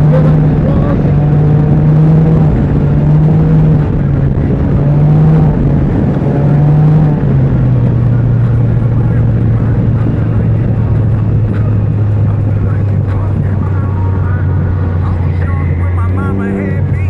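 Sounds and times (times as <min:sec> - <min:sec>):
three-wheeler engine running: 0:00.0 - 0:17.0.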